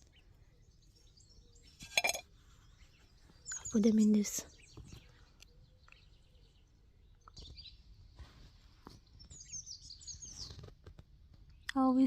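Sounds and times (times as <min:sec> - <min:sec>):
wild birds chirping: 0:00.0 - 0:12.0.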